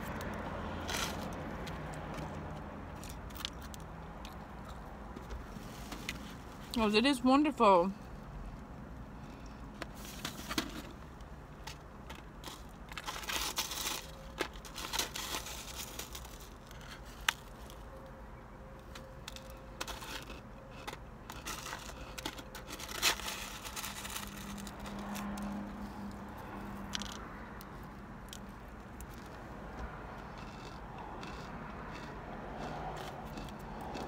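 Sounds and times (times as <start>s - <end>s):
crunching and chewing food: 0.0s - 6.8s, 9.0s - 34.0s.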